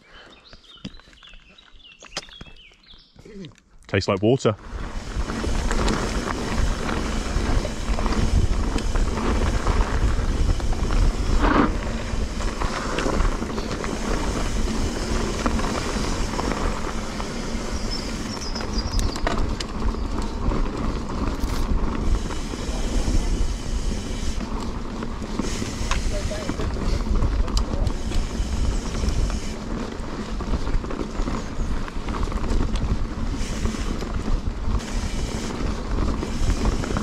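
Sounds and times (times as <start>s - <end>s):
bike tyres on dirt: 0.0s - 37.0s
bike clicks and rattles: 0.4s - 37.0s
wind buffeting microphone: 4.6s - 37.0s.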